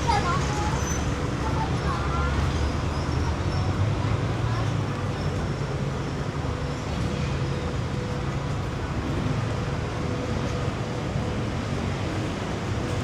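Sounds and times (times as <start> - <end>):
street traffic: 0.0 - 13.0
vehicle engines rumbling: 0.0 - 13.0.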